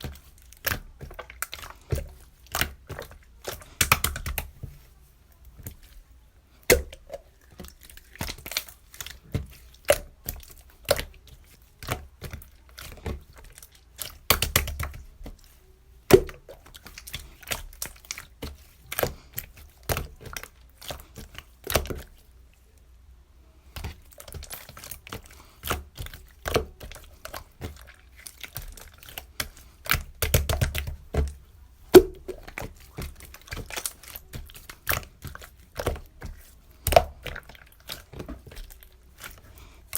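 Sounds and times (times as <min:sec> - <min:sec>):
clicking and crinkling handling: 0:00.0 - 0:22.9, 0:23.6 - 0:39.9.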